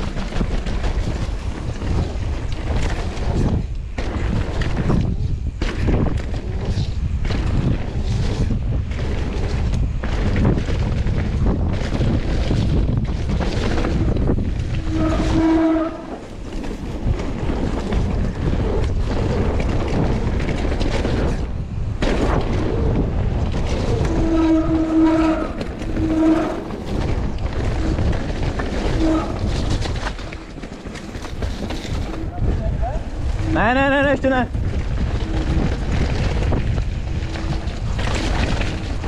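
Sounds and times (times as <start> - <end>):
bike rattling: 0.0 - 39.0
tyres rolling over dirt trail: 0.0 - 39.0
wind over microphone: 0.0 - 39.0.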